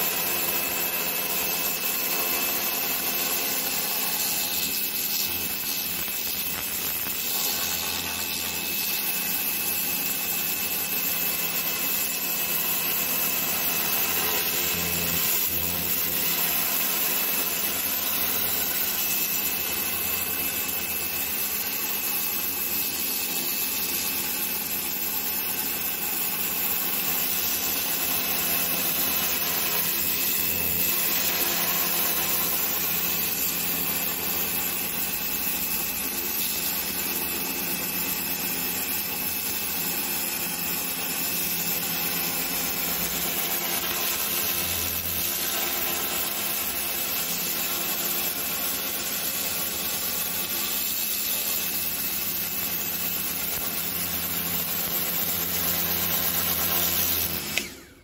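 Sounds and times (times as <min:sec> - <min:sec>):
pressure washer motor hum: 0:00.0 - 0:58.0.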